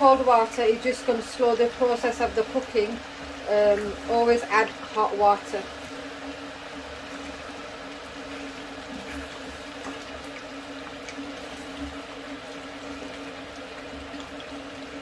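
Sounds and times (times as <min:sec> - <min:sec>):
pot boiling and bubbling: 0:00.0 - 0:15.0.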